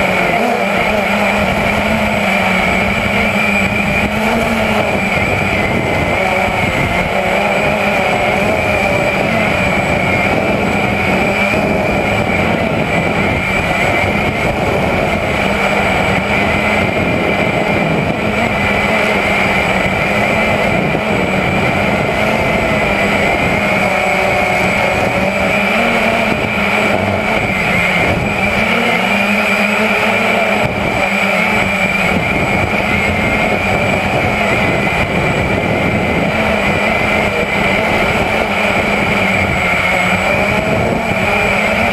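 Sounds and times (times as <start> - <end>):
drone motors whining: 0.0 - 41.9.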